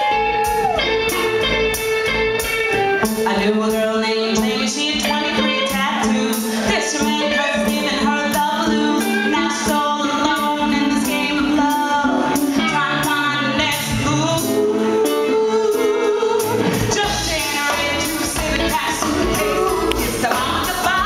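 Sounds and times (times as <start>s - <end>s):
live band playing: 0.0s - 21.0s
woman singing lead: 2.7s - 21.0s.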